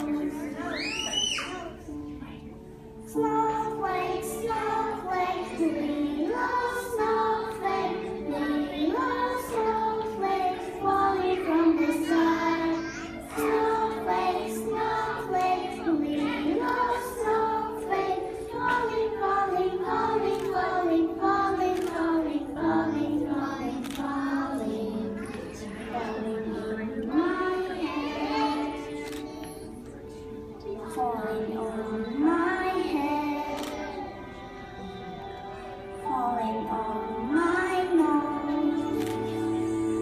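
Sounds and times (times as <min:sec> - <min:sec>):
musical accompaniment: 0:01.4 - 0:40.0
children singing: 0:03.1 - 0:40.0.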